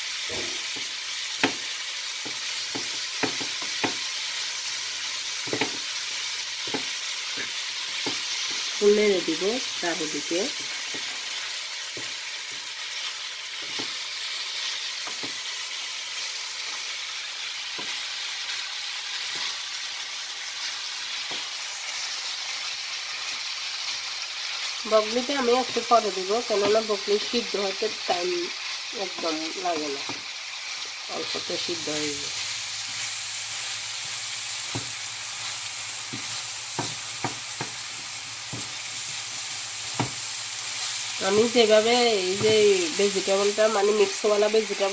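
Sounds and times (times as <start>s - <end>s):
vegetables sizzling in a pan: 0.0s - 44.9s.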